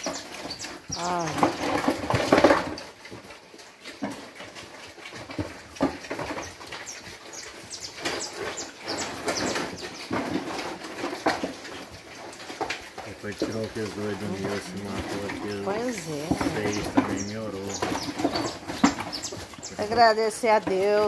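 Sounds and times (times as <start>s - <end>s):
pigs grunting and squealing: 4.0s - 21.0s.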